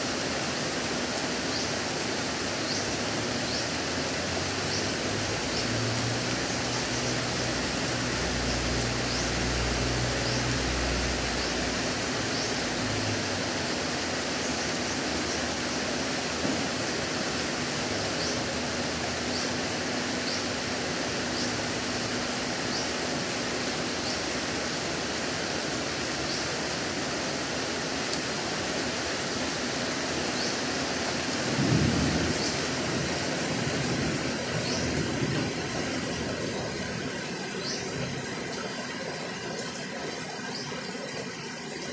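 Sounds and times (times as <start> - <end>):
heavy rain on foliage: 0.0 - 41.9.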